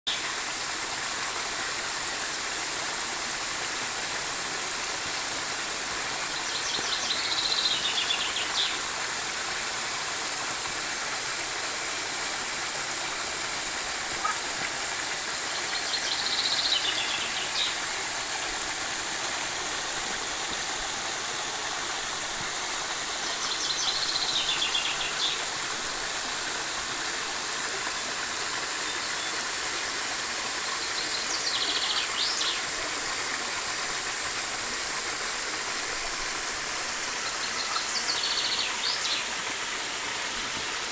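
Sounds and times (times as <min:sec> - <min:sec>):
flowing water: 0:00.1 - 0:40.9.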